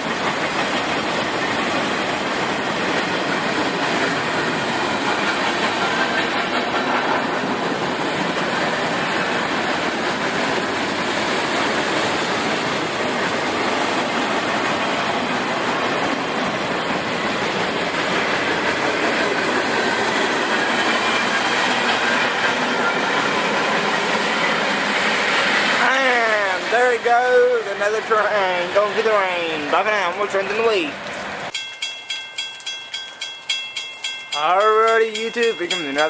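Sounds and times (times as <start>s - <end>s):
falling rain: 0.0s - 24.9s, 25.7s - 36.0s
train rolling past: 0.0s - 36.0s.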